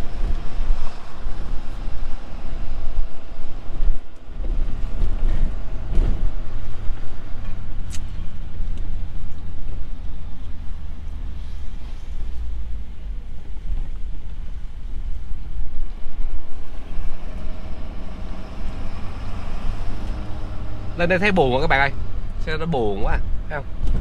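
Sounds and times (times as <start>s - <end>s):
road and wind noise: 0.0s - 24.0s
vehicle driving slowly: 0.0s - 24.0s.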